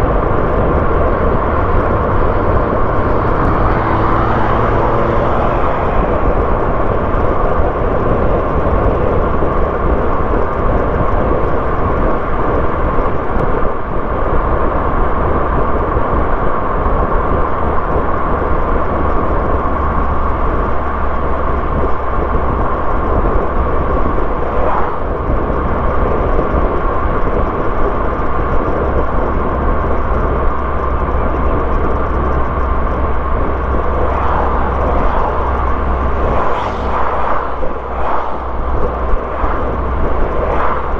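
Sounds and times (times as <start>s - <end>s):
car tyre and engine noise: 0.0s - 40.9s.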